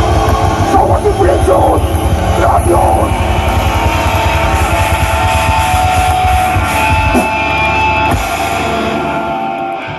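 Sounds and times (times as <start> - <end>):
live heavy rock band: 0.0 - 9.9.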